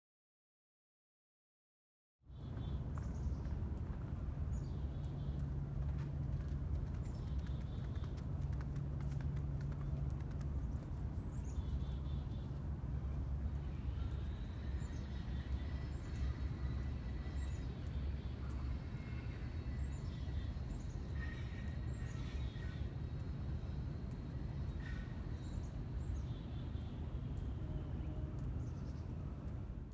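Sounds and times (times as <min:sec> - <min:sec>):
low rumble: 0:02.3 - 0:29.9
small birds chirping: 0:02.4 - 0:29.8.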